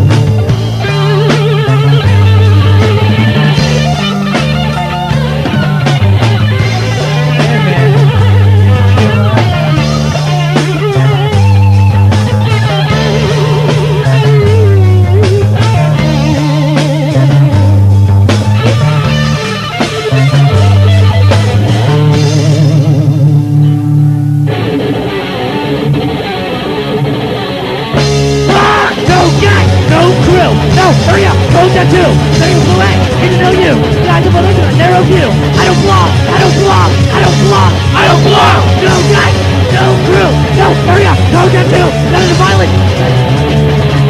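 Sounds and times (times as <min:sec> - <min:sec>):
bass guitar riffing: 0:00.0 - 0:44.0
drums: 0:00.0 - 0:44.0
electric guitar riffing: 0:00.0 - 0:44.0.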